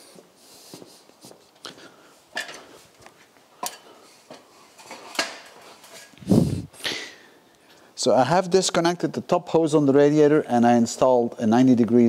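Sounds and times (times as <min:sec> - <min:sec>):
faint room noise: 0:00.0 - 0:12.0.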